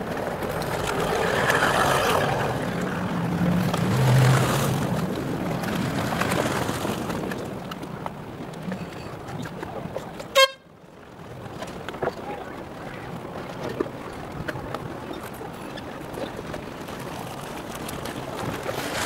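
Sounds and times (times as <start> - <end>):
jet ski passing: 0.0 - 19.0.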